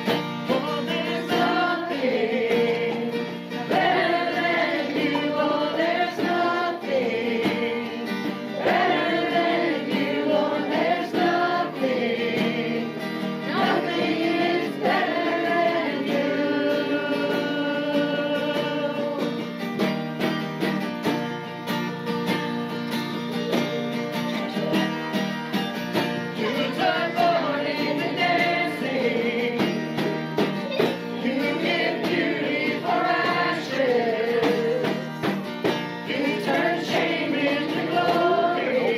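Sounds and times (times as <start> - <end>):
congregation singing: 0.0 - 19.5, 26.2 - 38.9
strummed guitar: 0.0 - 38.9.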